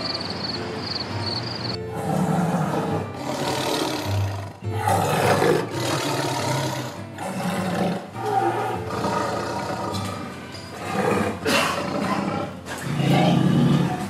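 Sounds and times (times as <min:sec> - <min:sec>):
tiger roaring and growling: 0:01.9 - 0:14.0.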